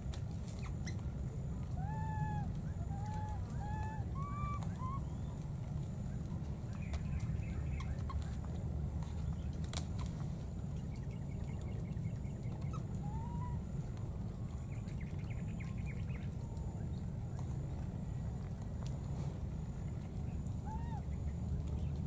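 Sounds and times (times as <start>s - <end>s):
steady low rumble: 0.0s - 22.0s
faint bird calls: 0.5s - 17.9s, 19.2s - 22.0s.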